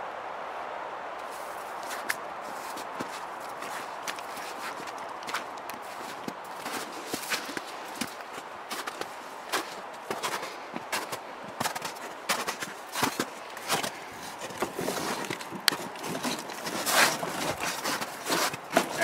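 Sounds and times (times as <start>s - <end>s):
footsteps crunching on snow: 1.1s - 19.0s.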